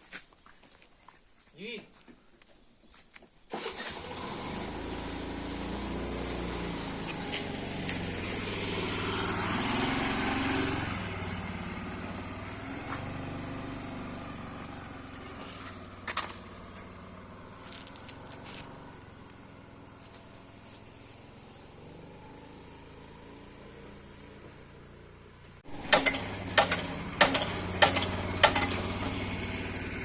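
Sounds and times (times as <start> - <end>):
small engine running: 3.5 - 30.0.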